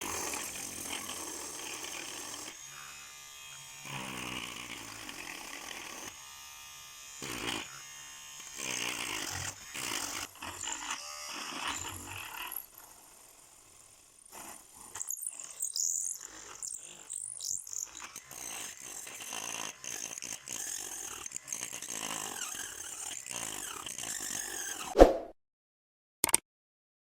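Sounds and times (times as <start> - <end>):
small electric motor whirring: 0.0 - 25.0.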